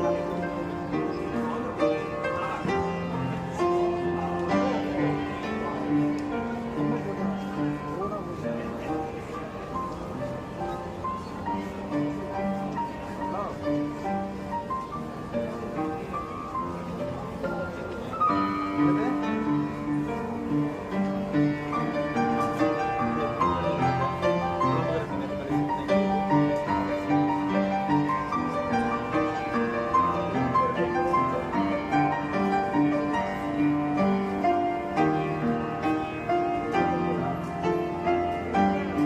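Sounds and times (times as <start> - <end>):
classical piano music: 0.0 - 39.0.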